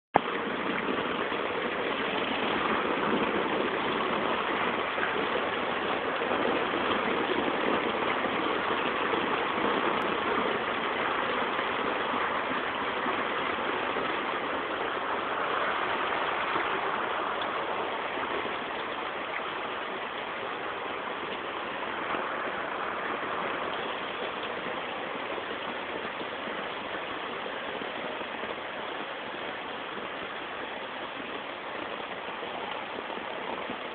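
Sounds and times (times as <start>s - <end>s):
floodwater flowing: 0.2s - 33.9s
heavy rain on water: 0.2s - 33.9s.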